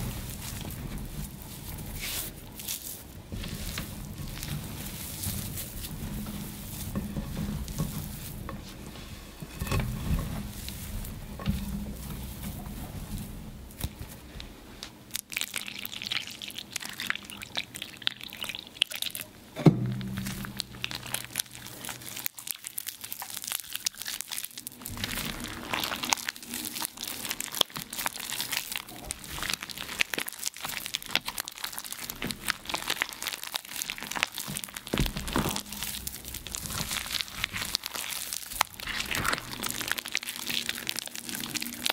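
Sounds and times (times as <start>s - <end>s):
chalk crushing and crackling: 0.0s - 14.5s, 20.0s - 41.9s.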